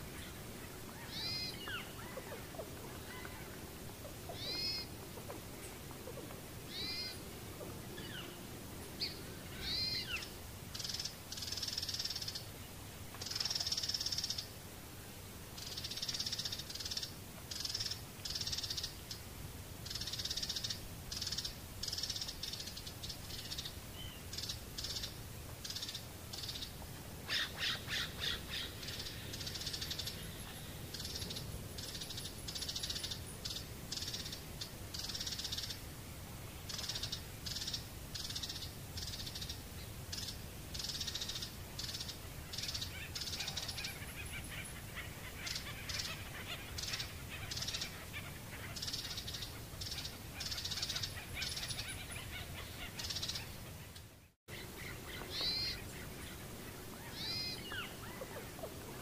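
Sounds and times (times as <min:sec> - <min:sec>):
birds calling: 0:00.0 - 0:14.6, 0:15.6 - 0:59.0.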